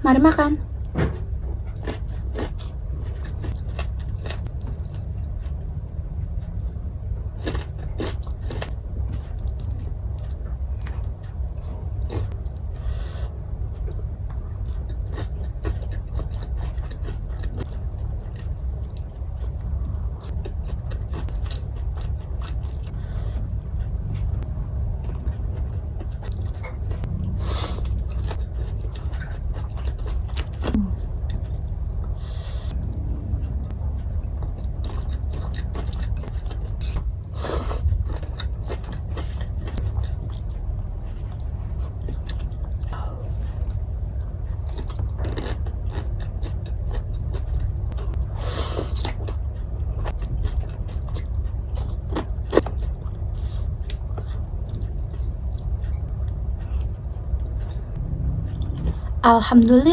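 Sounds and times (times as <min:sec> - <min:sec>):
steady low hum: 0:00.0 - 0:59.9
chewing and mouth sounds: 0:01.5 - 0:59.7.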